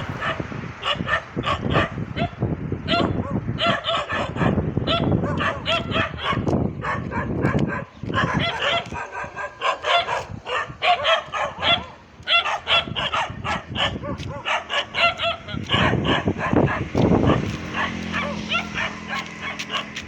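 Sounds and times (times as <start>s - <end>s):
dog barking: 0.2s - 20.0s.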